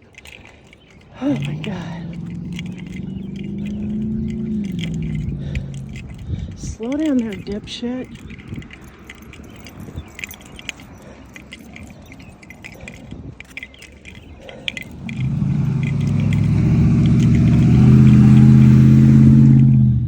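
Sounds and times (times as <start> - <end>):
light jingling and clicks: 0.0 - 20.0
vehicle engine approaching: 0.0 - 20.0.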